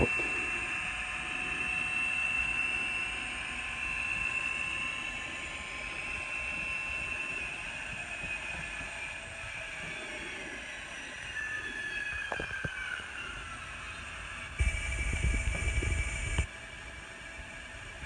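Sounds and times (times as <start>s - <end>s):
model diesel engine sound: 0.0s - 18.0s.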